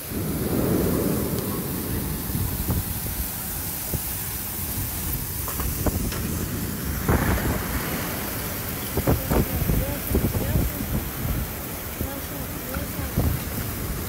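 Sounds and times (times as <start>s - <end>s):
heavy rain: 0.0s - 14.0s
storm wind gusting: 0.0s - 14.0s
wind buffeting microphone: 0.0s - 14.0s.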